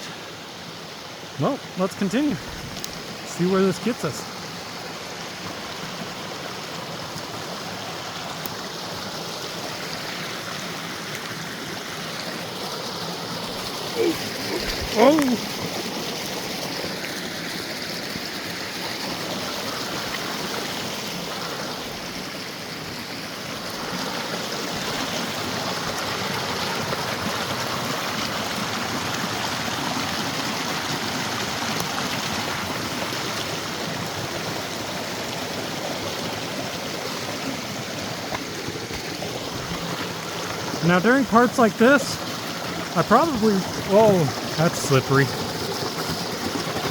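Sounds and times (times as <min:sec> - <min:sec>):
creek rushing over rocks: 0:00.0 - 0:46.9.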